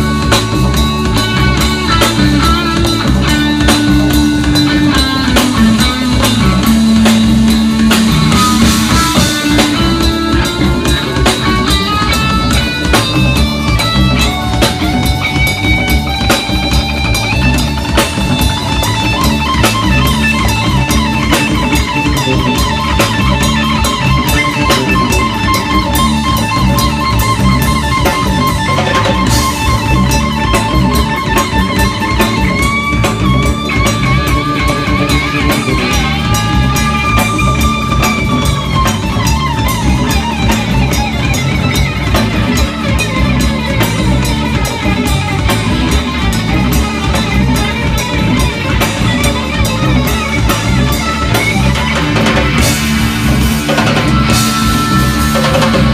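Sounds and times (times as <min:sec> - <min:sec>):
bass guitar: 0:00.0 - 0:55.9
drum kit: 0:00.0 - 0:55.9
electric guitar lead: 0:00.0 - 0:55.9.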